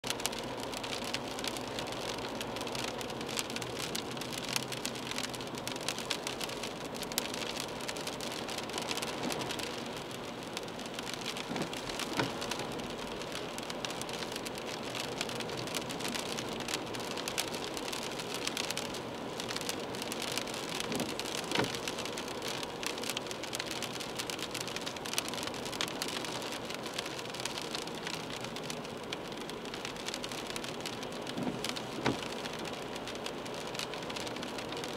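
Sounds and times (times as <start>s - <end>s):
rain on car windscreen: 0.0s - 34.9s
tyres hissing on wet road: 0.1s - 34.9s.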